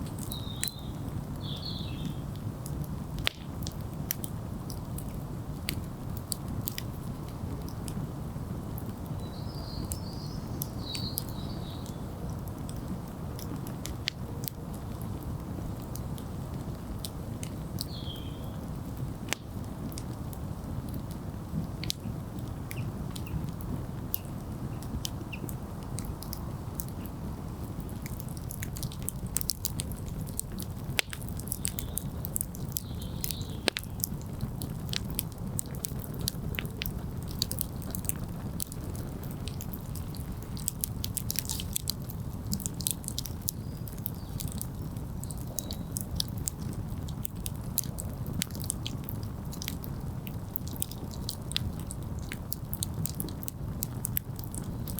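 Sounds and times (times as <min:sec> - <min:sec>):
fire steady low rush: 0:00.0 - 0:10.8, 0:11.5 - 0:54.9
campfire crackling and popping: 0:00.0 - 0:54.9.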